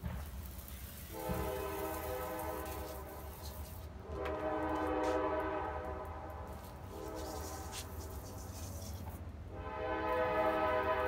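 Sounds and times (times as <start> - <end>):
horn blasts: 1.0 - 8.6, 9.5 - 11.0.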